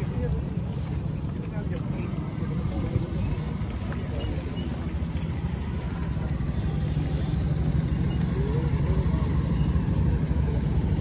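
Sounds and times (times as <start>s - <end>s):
faint crowd chatter: 0.0s - 11.0s
motorcycle engines rumbling: 0.0s - 11.0s.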